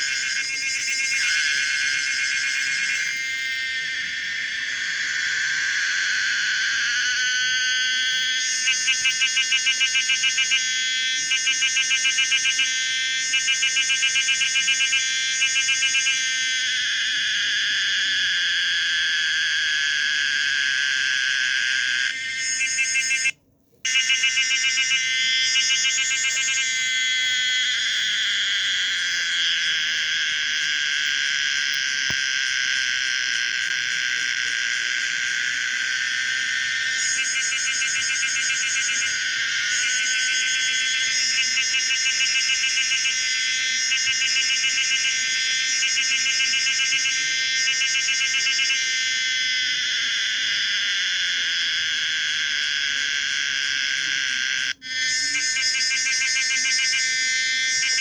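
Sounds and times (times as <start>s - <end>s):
cicada buzzing whine: 0.0s - 58.0s.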